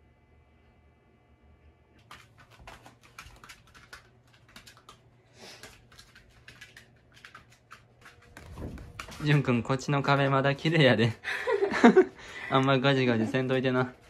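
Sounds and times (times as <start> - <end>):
dog claws clicking on floor: 2.0 - 14.0.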